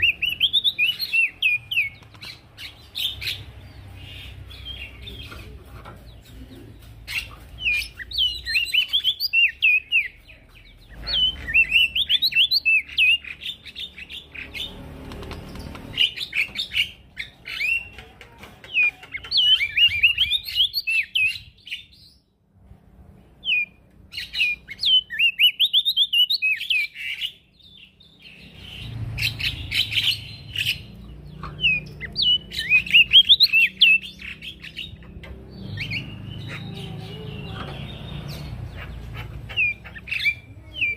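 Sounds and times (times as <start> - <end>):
bird singing twittering chirps: 0.0 - 18.1, 18.7 - 22.4, 23.4 - 40.9.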